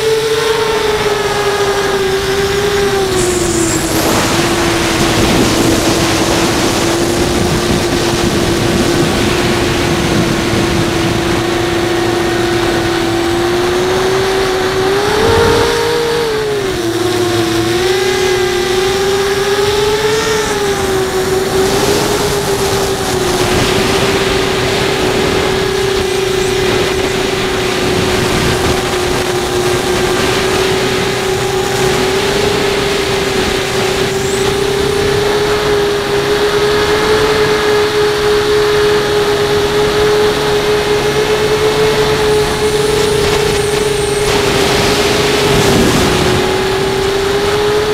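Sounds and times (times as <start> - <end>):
quadcopter motors whining: 0.0 - 47.9
wind noise: 0.0 - 47.9.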